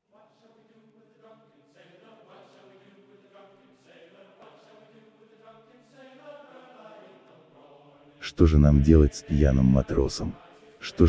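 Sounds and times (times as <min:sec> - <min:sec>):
faint group chant-like singing: 0:00.0 - 0:11.0.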